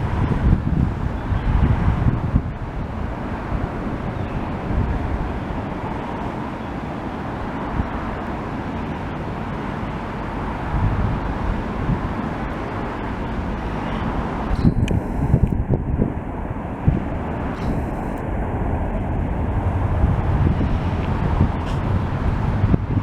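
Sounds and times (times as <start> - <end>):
ocean surf breaking: 0.0 - 23.0
wind rumble on microphone: 0.0 - 23.0.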